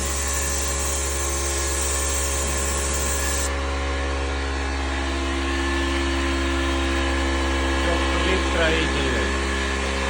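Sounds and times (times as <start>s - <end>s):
gas boiler humming: 0.0s - 10.0s.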